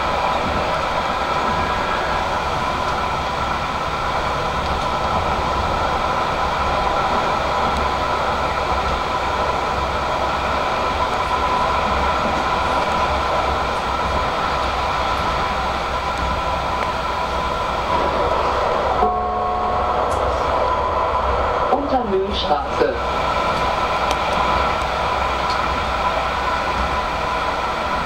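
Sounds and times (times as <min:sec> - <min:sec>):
tram rolling rumble: 0:00.0 - 0:28.0
tram whining tones: 0:00.0 - 0:28.0.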